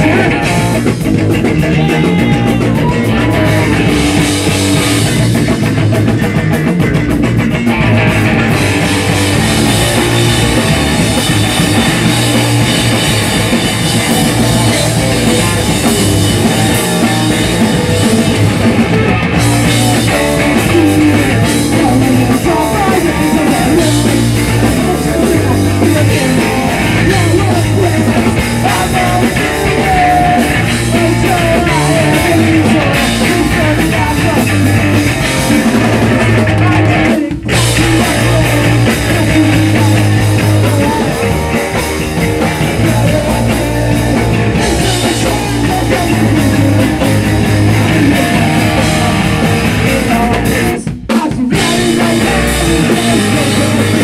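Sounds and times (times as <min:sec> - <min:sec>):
drum kit: 0:00.0 - 0:54.0
electric guitar: 0:00.0 - 0:54.0
punk rock band playing live: 0:00.0 - 0:54.0.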